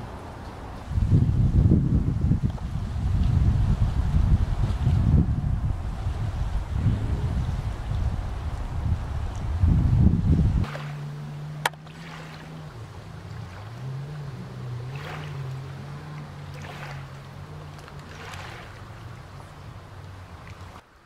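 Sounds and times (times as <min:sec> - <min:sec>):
wind buffeting microphone: 0:00.0 - 0:20.8.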